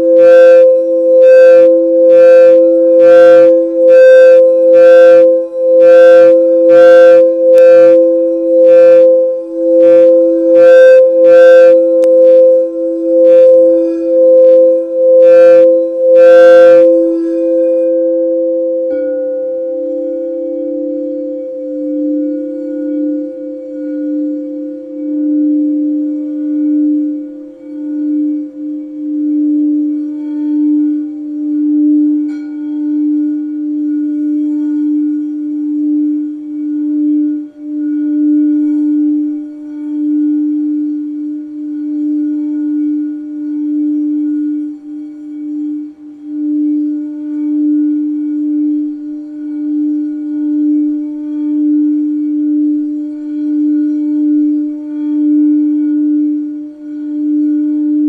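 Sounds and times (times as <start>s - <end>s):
faint higher ringing tones: 0.0s - 58.0s
singing bowl low note: 0.0s - 58.0s.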